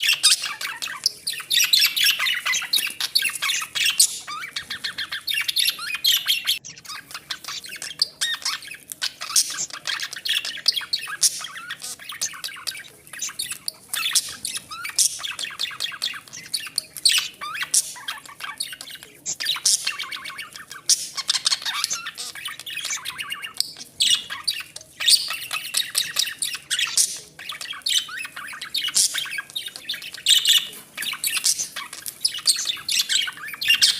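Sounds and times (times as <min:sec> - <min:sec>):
budgerigars chirping and squawking: 0:00.0 - 0:33.9.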